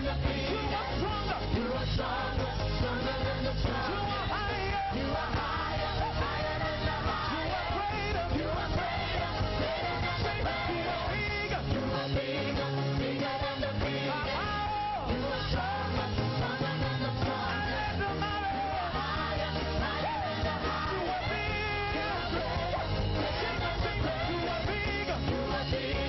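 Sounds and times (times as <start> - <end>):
band playing: 0.0 - 26.0
voices singing worship music: 0.0 - 26.0.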